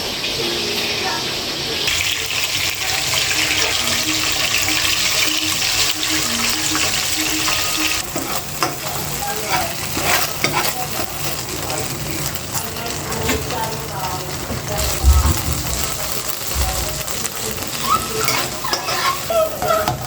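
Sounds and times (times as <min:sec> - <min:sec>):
utensil scraping a pan: 0:02.9 - 0:20.0.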